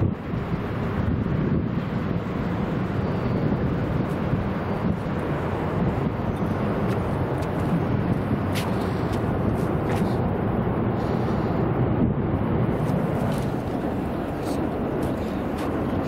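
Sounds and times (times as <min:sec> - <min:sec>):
road traffic: 0:00.0 - 0:16.0
wind buffeting microphone: 0:00.0 - 0:16.0.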